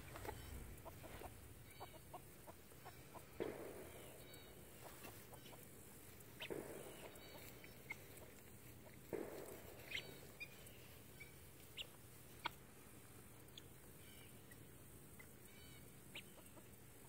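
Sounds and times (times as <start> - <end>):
bird pecking in grass: 0.0 - 14.0.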